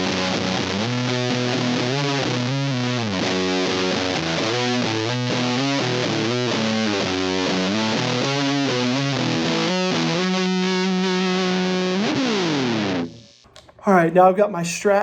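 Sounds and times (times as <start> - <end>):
fuzz electric guitar notes: 0.0 - 13.4.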